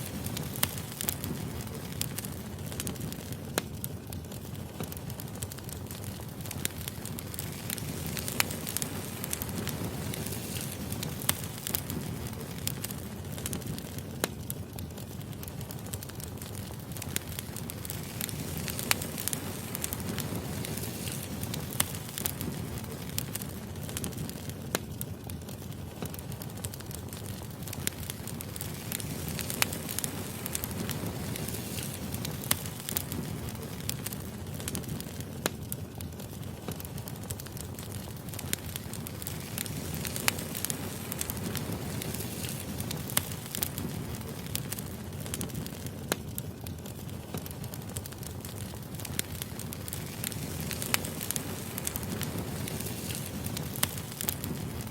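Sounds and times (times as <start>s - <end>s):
sharp fire pops: 0.0s - 54.9s
wood fire crackling: 0.0s - 54.9s.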